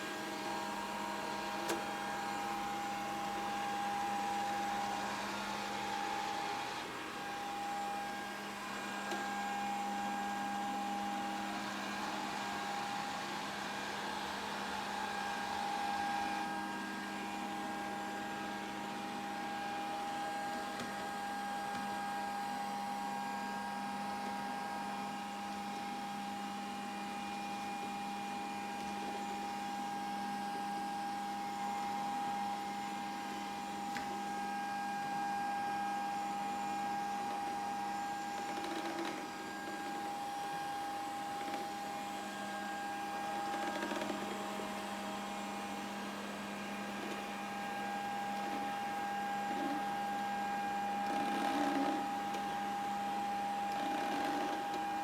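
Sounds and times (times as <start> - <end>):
robot vacuum cleaner running: 0.0 - 55.0.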